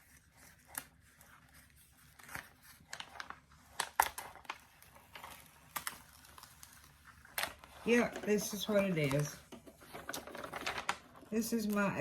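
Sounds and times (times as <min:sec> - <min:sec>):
paper wrapping tearing and crinkling: 0:00.0 - 0:12.0.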